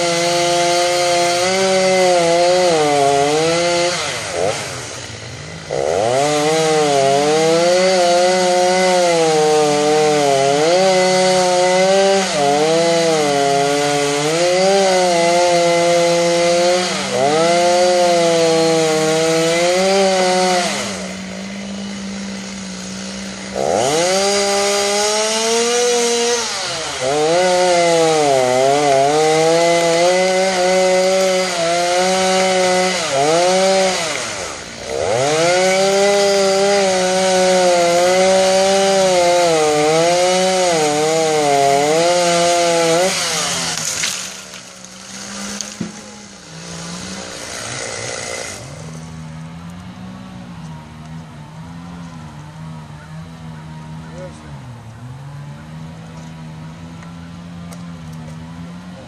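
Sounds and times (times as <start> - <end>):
chainsaw idling and cutting wood: 0.0 - 59.0.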